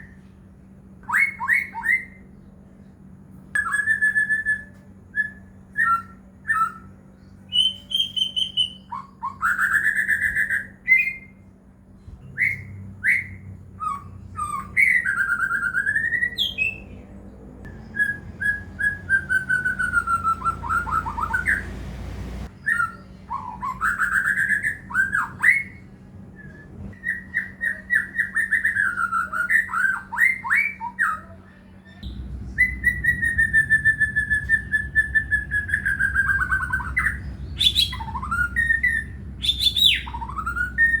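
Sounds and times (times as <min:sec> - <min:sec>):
songbird whistling and trilling: 0:01.0 - 0:02.5, 0:03.6 - 0:11.5, 0:12.2 - 0:17.0, 0:17.6 - 0:41.0.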